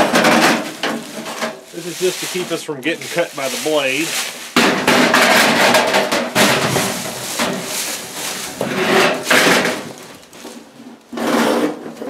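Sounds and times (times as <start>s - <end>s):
sheet metal scraping and rattling: 0.0s - 12.0s.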